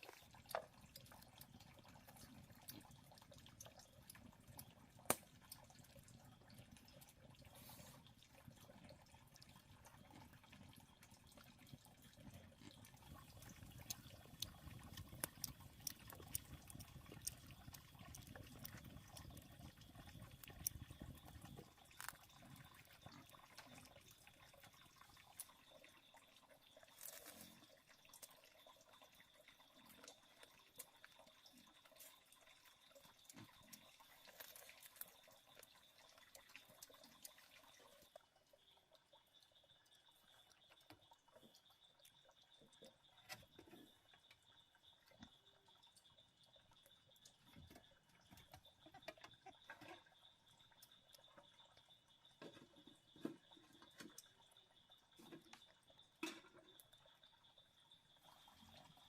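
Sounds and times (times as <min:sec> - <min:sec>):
water trickling and dripping: 0:00.0 - 0:59.0.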